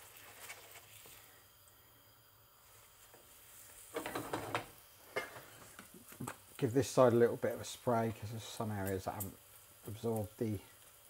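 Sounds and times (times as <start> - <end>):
bread sizzling in a pan: 0.0 - 11.0.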